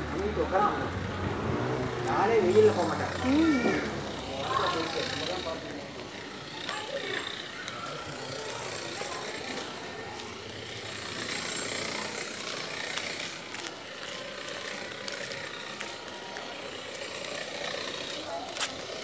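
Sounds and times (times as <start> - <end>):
outdoor street background noise: 0.0 - 19.0.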